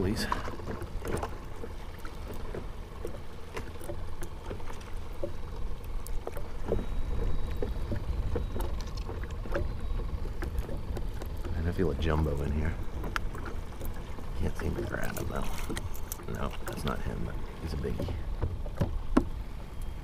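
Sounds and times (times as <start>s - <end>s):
waves lapping against kayak hull: 0.0s - 20.0s.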